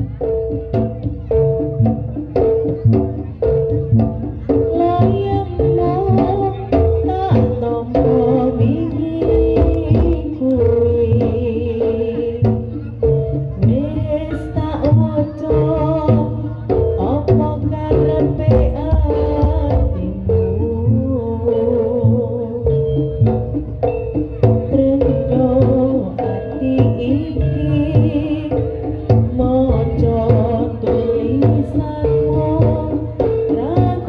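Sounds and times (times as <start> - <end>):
hand drums beating fast: 0.0 - 34.0.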